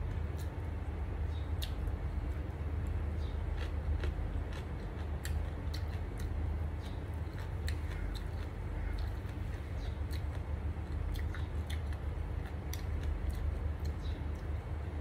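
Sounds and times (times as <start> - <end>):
steady low hum: 0.0 - 15.0
person chewing food: 1.6 - 14.6.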